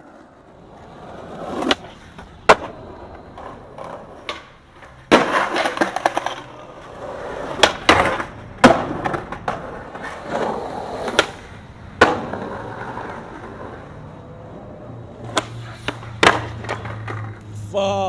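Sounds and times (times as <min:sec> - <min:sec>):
skateboard clacking on ground: 0:00.0 - 0:17.5
skateboard clattering on asphalt: 0:00.0 - 0:17.5
wheels rolling on concrete: 0:00.0 - 0:17.7.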